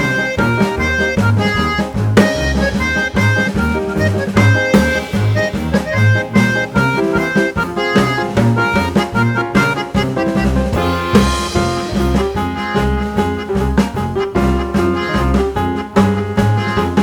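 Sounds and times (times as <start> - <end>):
upbeat jazz instrumental: 0.0 - 17.0.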